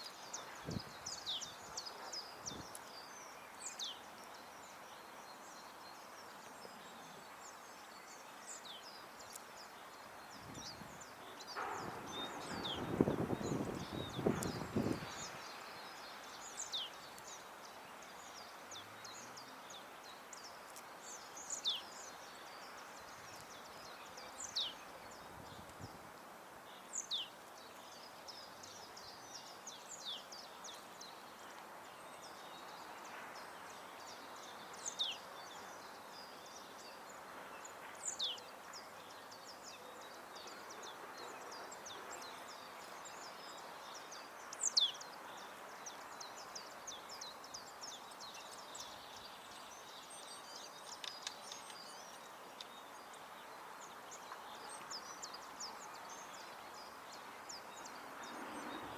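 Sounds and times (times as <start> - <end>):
faint background hiss: 0.0 - 58.9
songbirds chirping: 0.0 - 58.9.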